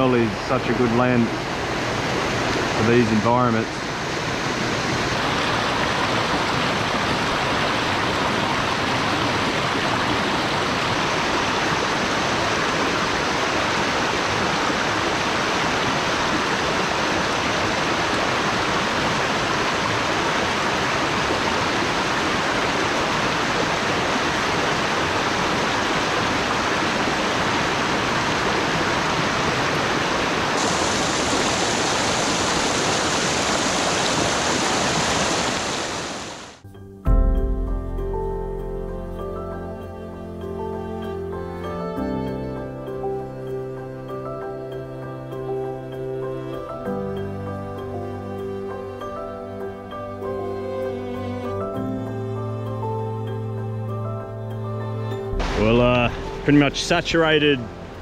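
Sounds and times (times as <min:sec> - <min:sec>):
stream rushing over rocks: 0:00.0 - 0:36.6, 0:42.4 - 0:58.0.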